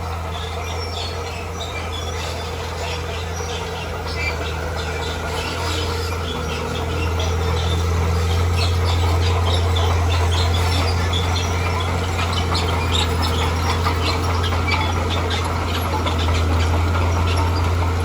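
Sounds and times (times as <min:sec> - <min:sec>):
diesel machine engine drone: 0:00.0 - 0:18.0.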